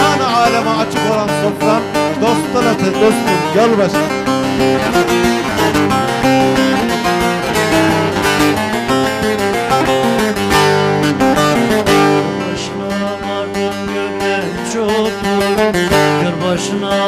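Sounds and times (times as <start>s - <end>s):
long-necked lute plucked quickly: 0.0s - 17.0s.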